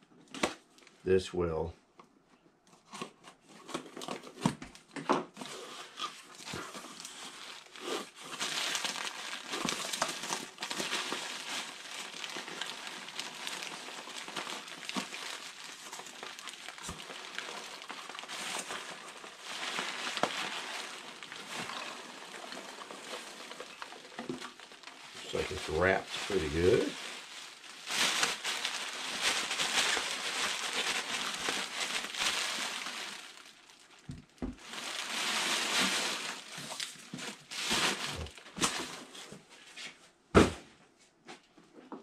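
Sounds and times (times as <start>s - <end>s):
bubble wrap and packing peanuts rustling: 2.8s - 40.0s.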